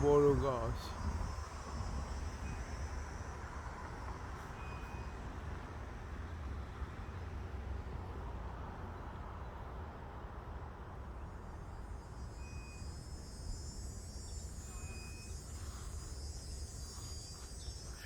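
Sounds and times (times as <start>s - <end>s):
insects buzzing in trees: 0.0s - 7.4s, 11.0s - 18.0s.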